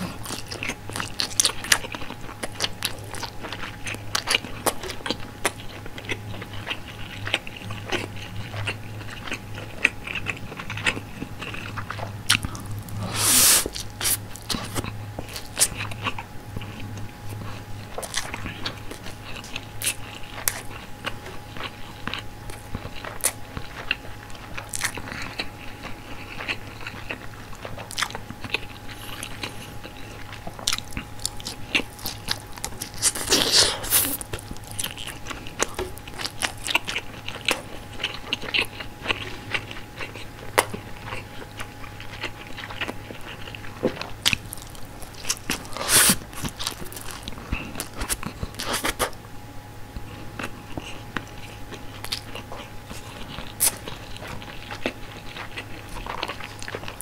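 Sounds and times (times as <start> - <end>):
low hum: 0.0 - 48.6
close chewing with wet mouth clicks: 0.0 - 49.2, 50.0 - 57.0.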